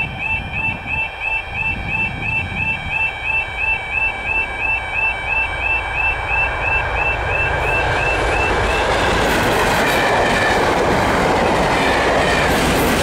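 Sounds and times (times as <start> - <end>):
level crossing alarm warbling: 0.0 - 10.6
diesel locomotive passing: 0.0 - 13.0.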